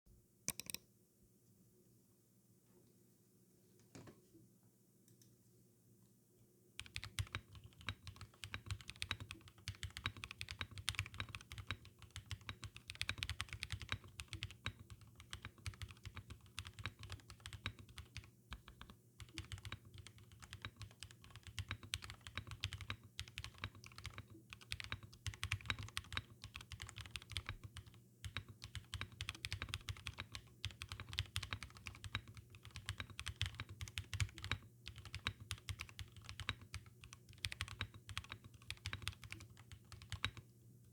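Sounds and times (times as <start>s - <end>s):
mechanical keyboard typing: 0.5s - 0.8s, 6.8s - 40.5s.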